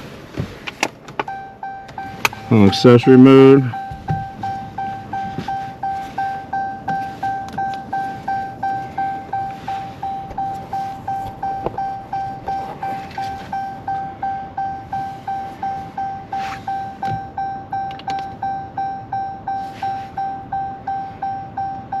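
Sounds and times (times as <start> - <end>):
car warning chime dinging: 0.8 - 22.0.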